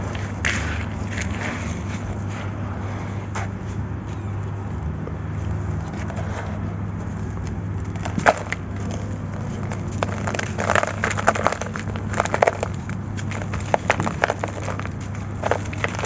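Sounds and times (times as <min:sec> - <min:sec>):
sand-cement crunching: 0:00.0 - 0:16.0
steady low hum: 0:00.0 - 0:16.0.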